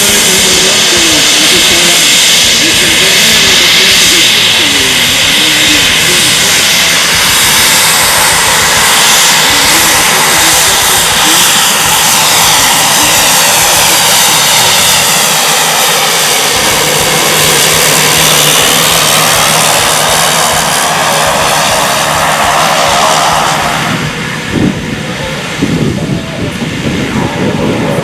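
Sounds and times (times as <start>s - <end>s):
turboprop engines whining: 0.0s - 28.0s.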